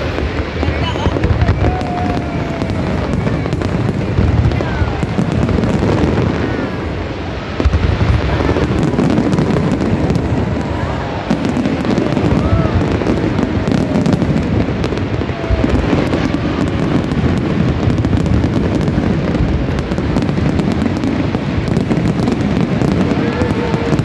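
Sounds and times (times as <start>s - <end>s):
sharp crackling: 0.0s - 24.0s.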